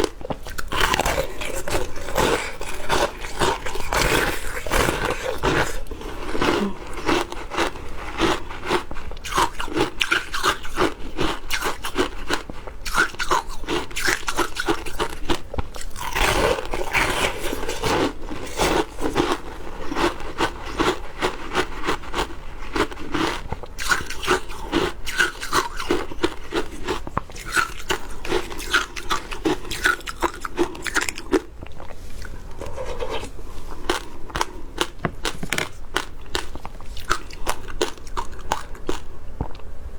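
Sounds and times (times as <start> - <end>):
ice crunching in mouth: 0.0 - 39.6.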